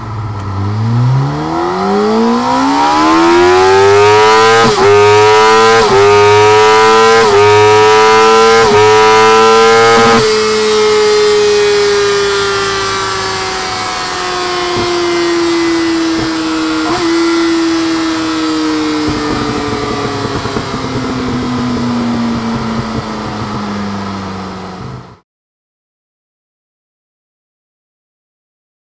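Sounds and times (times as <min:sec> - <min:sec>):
exhaust crackling: 0:00.0 - 0:25.2
motorcycle engine winding down: 0:00.0 - 0:25.2.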